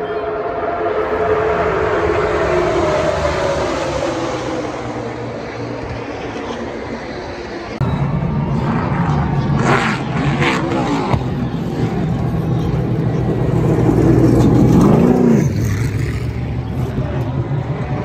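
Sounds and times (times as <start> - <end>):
race cars passing by: 0.0 - 18.0
steady engine rumble: 0.0 - 18.0.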